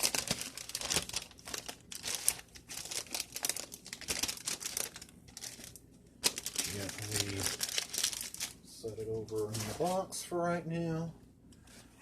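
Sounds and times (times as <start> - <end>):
plastic sleeve crinkling: 0.0 - 10.0.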